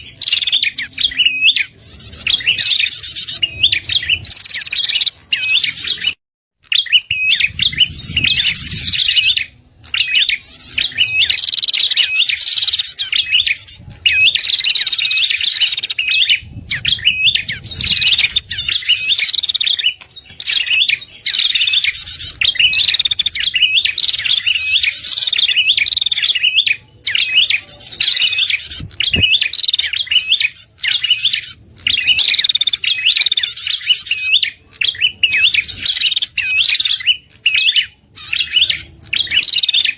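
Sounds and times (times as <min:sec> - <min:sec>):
rapid high bird chirping: 0:00.0 - 0:39.9.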